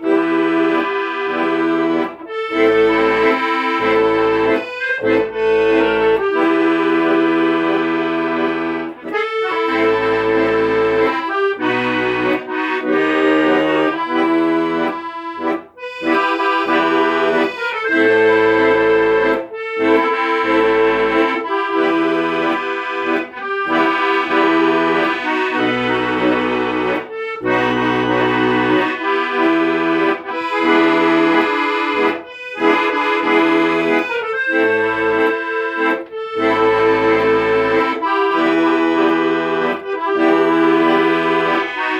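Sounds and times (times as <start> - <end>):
accordion playing a tune: 0.0 - 41.9.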